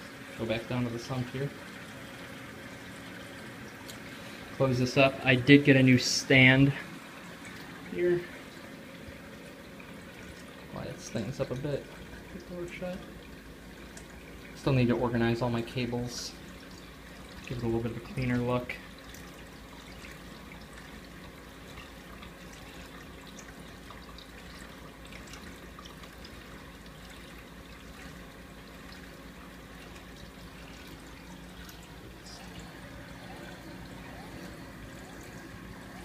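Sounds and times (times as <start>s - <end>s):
water trickling and splashing: 0.0s - 36.0s.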